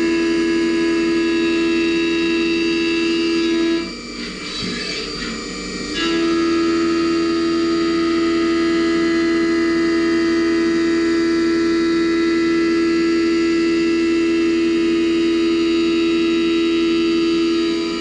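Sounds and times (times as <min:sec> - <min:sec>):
milling machine cutting steel whine: 0:00.0 - 0:18.0.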